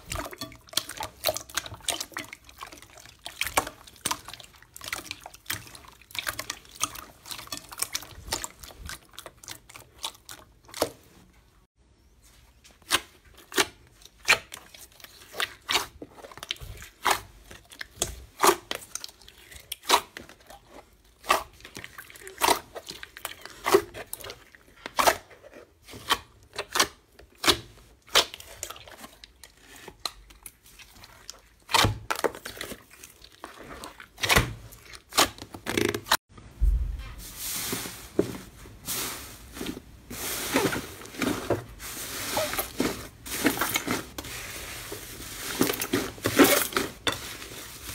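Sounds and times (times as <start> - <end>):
slime crackling and squishing: 0.0 - 11.2, 12.7 - 47.9.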